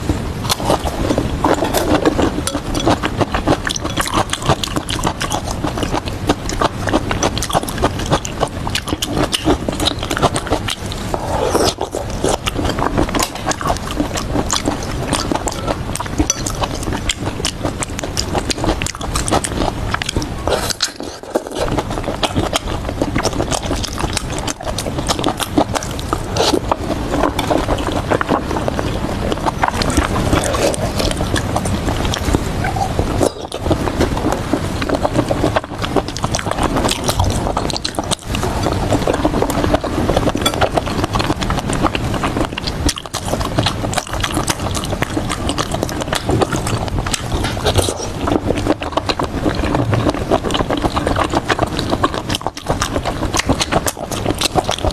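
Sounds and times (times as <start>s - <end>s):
chewing and crunching food: 0.0s - 54.9s.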